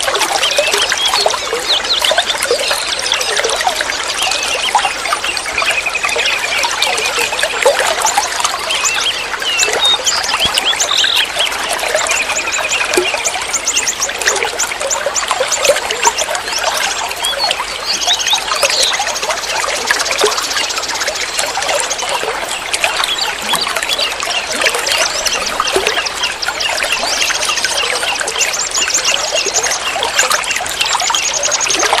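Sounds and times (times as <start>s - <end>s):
water trickling and splashing: 0.0s - 32.0s.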